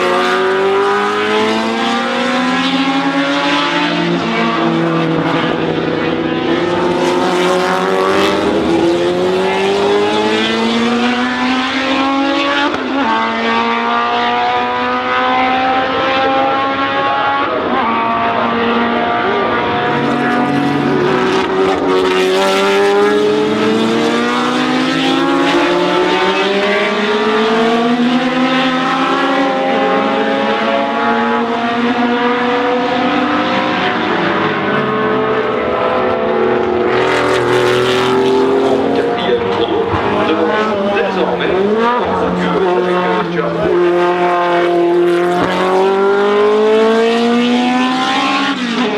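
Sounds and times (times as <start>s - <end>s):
racing engine accelerating: 0.0s - 48.9s.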